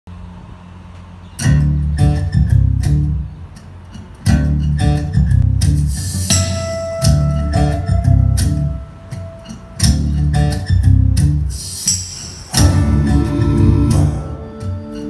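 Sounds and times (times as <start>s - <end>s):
guitar and bass song over loudspeakers: 1.4s - 15.0s.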